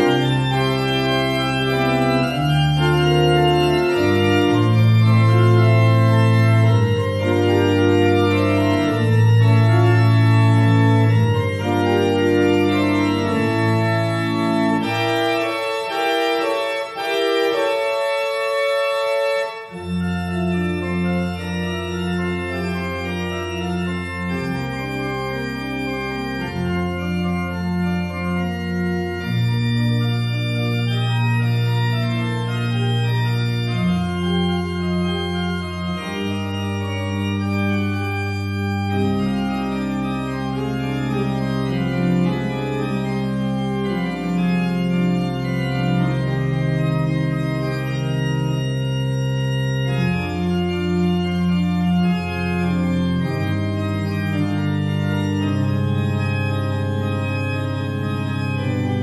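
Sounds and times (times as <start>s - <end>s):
church organ playing: 0.0s - 59.0s.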